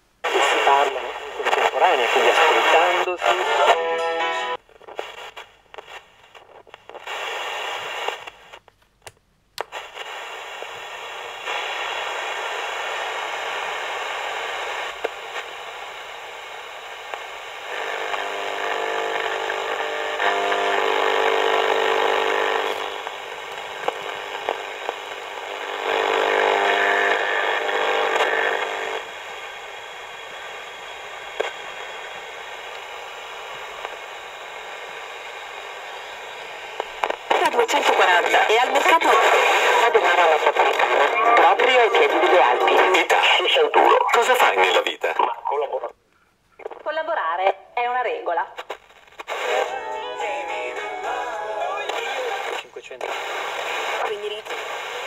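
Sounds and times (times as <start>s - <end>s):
radio static hiss: 0.0s - 8.7s, 9.6s - 55.0s.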